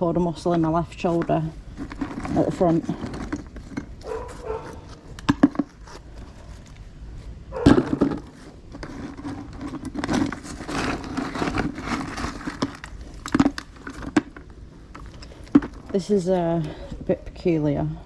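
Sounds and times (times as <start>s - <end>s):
rustling and scraping: 0.0s - 17.9s.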